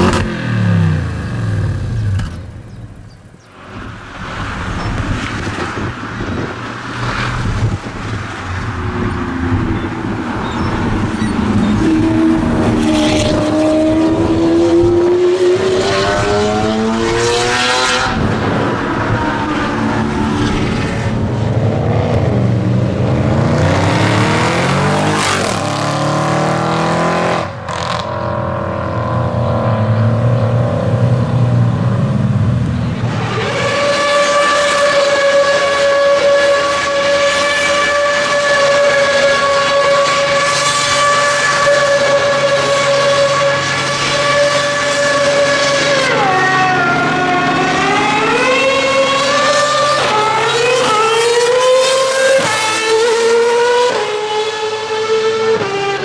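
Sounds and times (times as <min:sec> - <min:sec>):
high-revving car engine: 0:00.0 - 0:03.1, 0:03.8 - 0:56.0.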